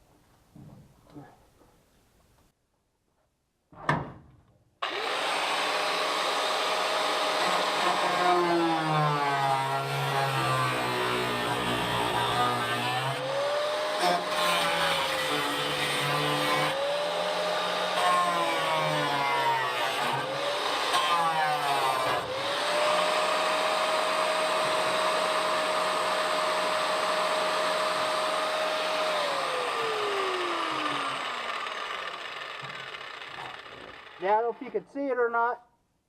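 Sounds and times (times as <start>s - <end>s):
grinder cutting sheet metal: 4.8s - 34.5s.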